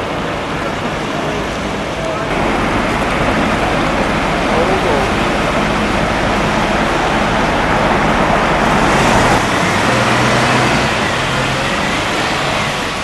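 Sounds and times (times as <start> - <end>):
large vehicle engine running: 0.0 - 13.0
steady traffic noise: 0.0 - 13.0.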